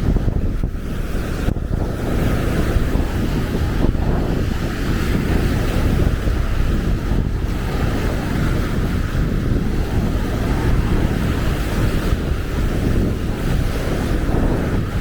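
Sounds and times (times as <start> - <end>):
continuous rumble: 0.0 - 15.0
small waves breaking on sand: 0.0 - 15.0
wind buffeting microphone: 0.0 - 15.0.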